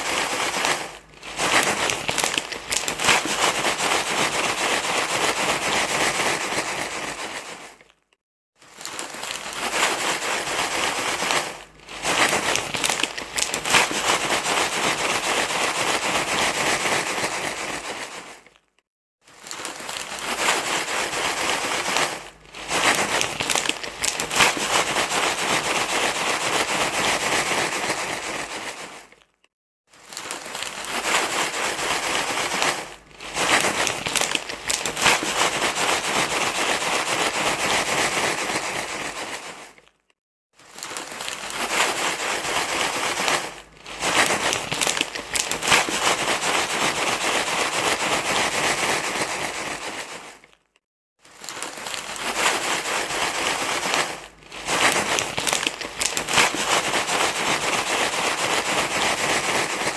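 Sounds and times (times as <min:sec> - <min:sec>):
crinkling rustling noise: 0:00.0 - 0:59.9.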